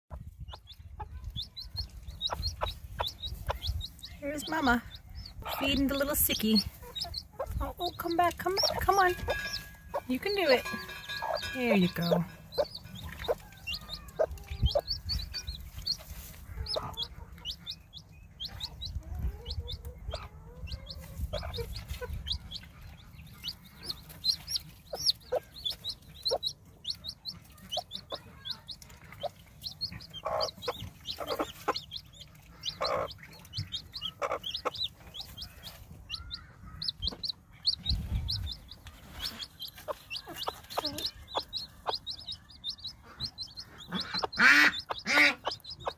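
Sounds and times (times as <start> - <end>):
chick peeping: 0.1 - 45.9
hen clucking: 0.1 - 45.9.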